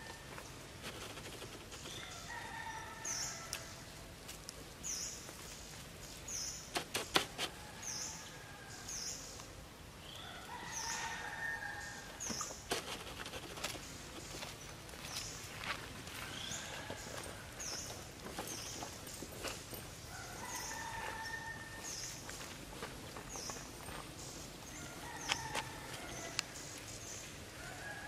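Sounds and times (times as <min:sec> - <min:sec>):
outdoor ambience: 0:00.0 - 0:28.0.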